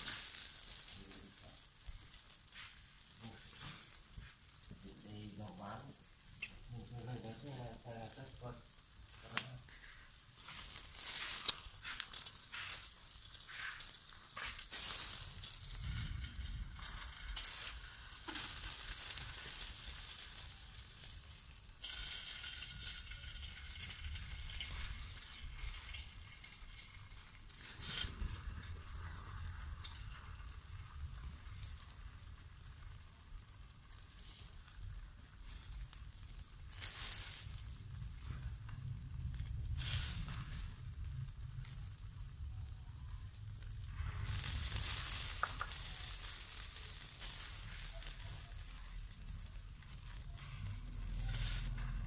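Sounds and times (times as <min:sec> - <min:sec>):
chicken sizzling on a grill: 0:00.0 - 0:52.0.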